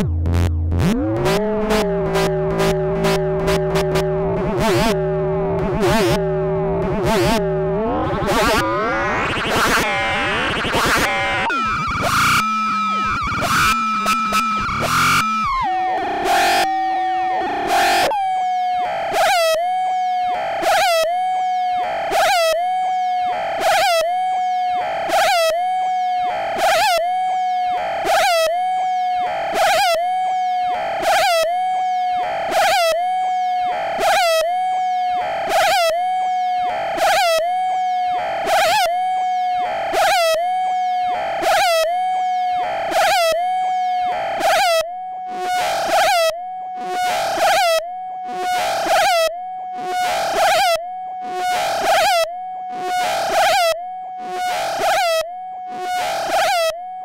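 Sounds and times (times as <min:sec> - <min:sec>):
synthesizer tone with swooping bursts: 0:00.0 - 0:56.8
synthesizer chaotic noise: 0:00.0 - 0:57.0.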